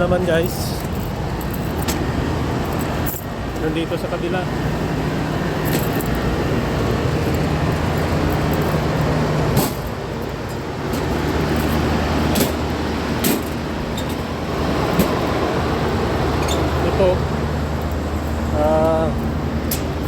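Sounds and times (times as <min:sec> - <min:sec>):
air conditioning machinery hum: 0:00.0 - 0:20.0.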